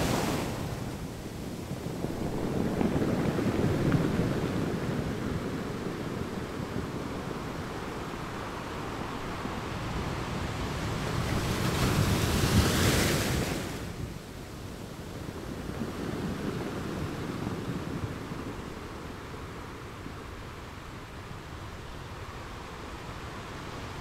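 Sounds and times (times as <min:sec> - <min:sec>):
rushing wind and surf: 0:00.0 - 0:24.0.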